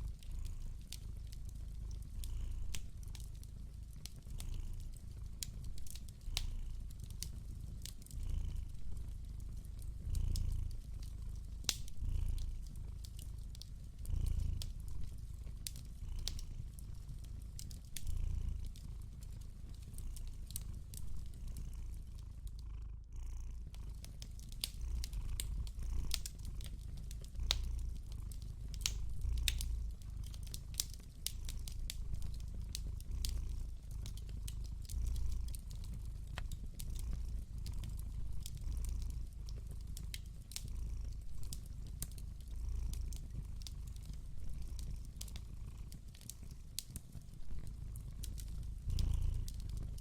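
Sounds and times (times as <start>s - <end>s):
wood fire crackling: 0.0s - 22.6s, 23.6s - 50.0s
cat purring: 0.0s - 50.0s.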